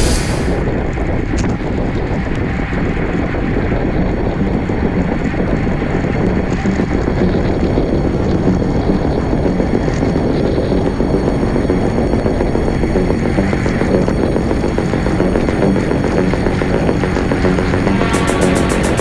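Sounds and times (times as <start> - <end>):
wind buffeting microphone: 0.0 - 18.1.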